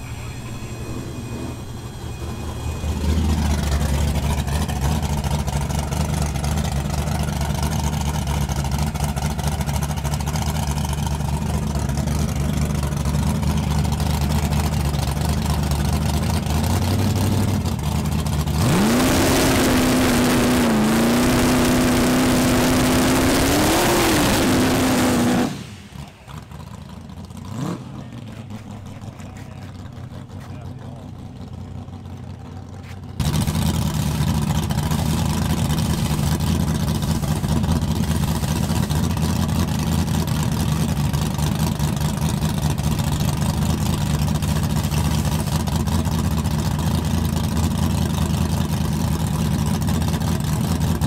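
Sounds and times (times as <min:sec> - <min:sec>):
drag car engine revving: 0:00.0 - 0:51.0
tyres spinning in burnout: 0:00.0 - 0:51.0.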